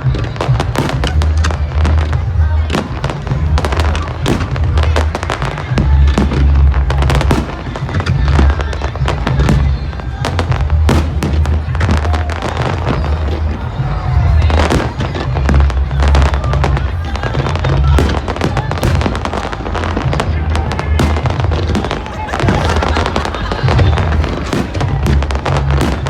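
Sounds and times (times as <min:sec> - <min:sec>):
fireworks bursting: 0:00.0 - 0:26.0
heavy low rumble: 0:00.0 - 0:26.0.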